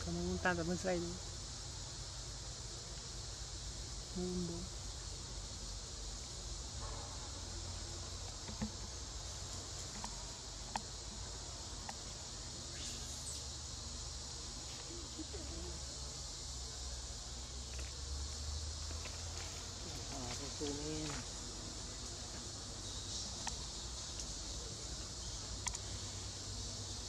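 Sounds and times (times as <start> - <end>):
forest insects droning: 0.0 - 27.0.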